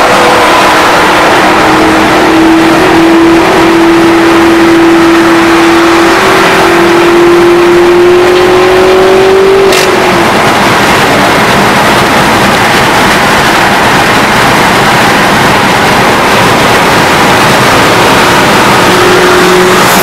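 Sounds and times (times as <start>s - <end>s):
car engine drone: 0.0s - 20.0s
road and wind noise: 0.0s - 20.0s.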